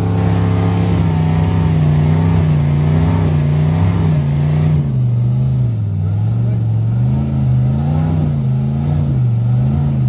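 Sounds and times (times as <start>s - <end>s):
off-road vehicle engine revving: 0.0s - 10.0s.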